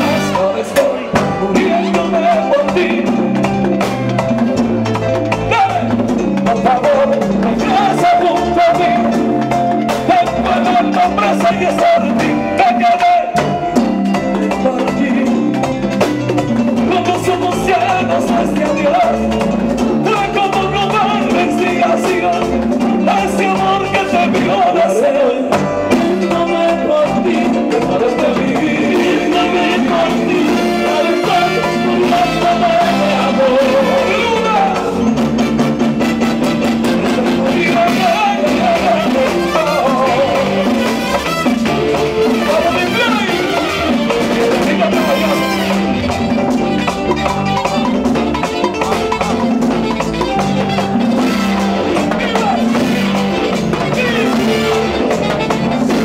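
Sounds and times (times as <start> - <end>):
man singing: 0.0 - 16.0, 16.6 - 35.4, 36.0 - 56.0
drums and timbales: 0.0 - 56.0
latin dance band playing: 0.0 - 56.0.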